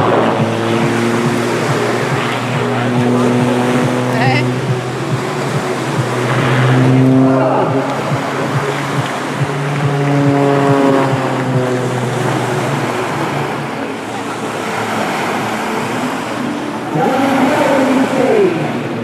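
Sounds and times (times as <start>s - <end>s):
plane engine and propeller running: 0.0s - 19.0s.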